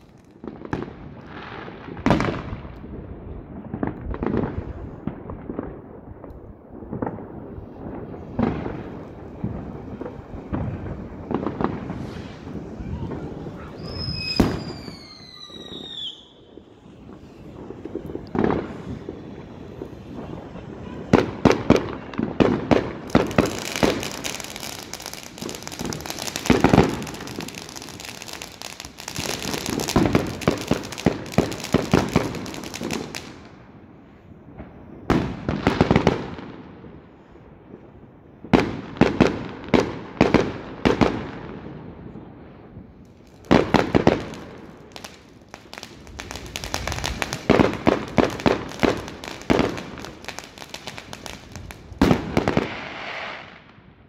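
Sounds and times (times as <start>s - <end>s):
fireworks banging and crackling: 0.0s - 54.0s.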